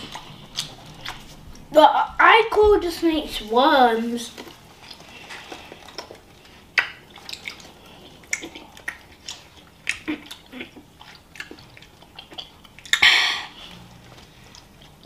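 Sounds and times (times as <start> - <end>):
chewing and lip-smacking: 0.0 - 1.7, 4.3 - 15.0.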